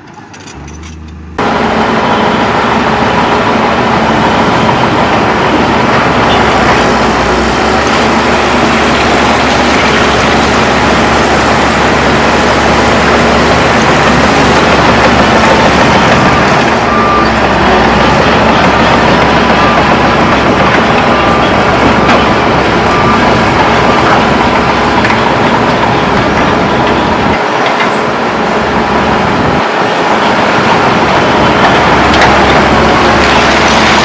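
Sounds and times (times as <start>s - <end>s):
heavy diesel machinery rumbling: 0.0s - 34.0s.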